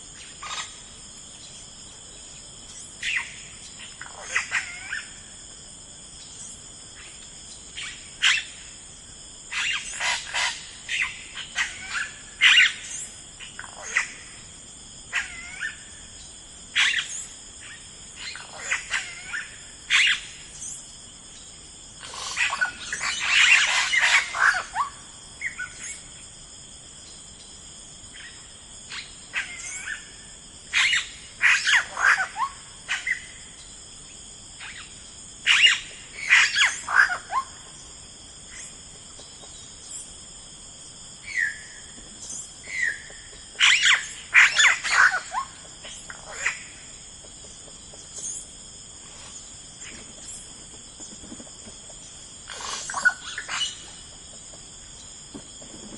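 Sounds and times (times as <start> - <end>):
high-pitched insect drone: 0.0 - 55.9
songbirds singing: 0.1 - 5.3, 9.4 - 26.4, 27.0 - 40.5, 41.2 - 55.9.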